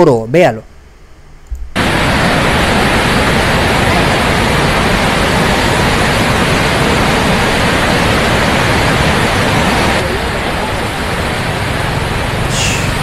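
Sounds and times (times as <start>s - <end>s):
floodwater rushing: 1.8s - 13.0s.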